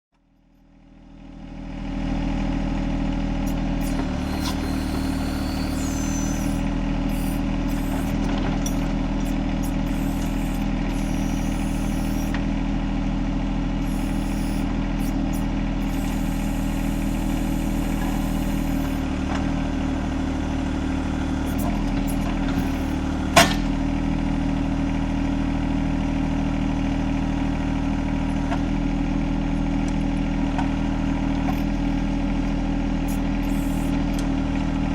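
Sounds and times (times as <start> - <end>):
diesel tractor engine running: 0.2 - 34.9.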